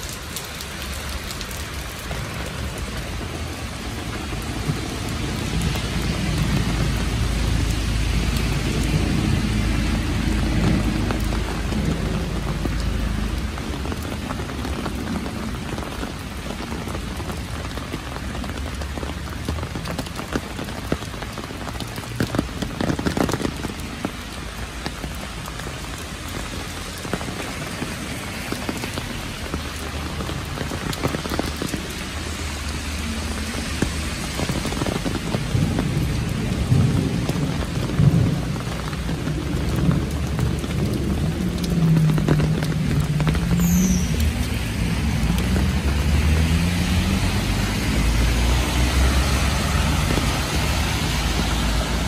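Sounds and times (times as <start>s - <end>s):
heavy rain on street: 0.0s - 52.0s
thunder rumbling: 1.8s - 17.8s, 24.9s - 52.0s.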